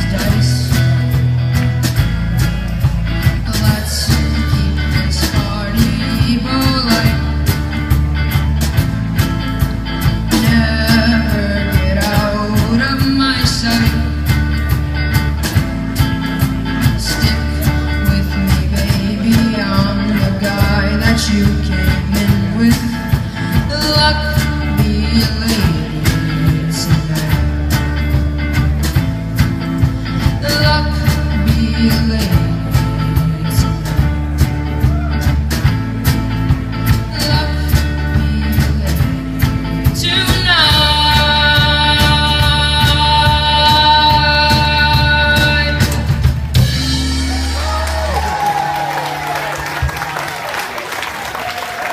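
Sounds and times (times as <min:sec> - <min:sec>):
person singing: 0:00.0 - 0:01.3, 0:02.4 - 0:15.2, 0:16.0 - 0:28.6, 0:29.8 - 0:35.8, 0:36.4 - 0:48.5
drums steady beat: 0:00.0 - 0:50.8
electric bass: 0:00.0 - 0:50.8
electric guitar: 0:00.0 - 0:51.9.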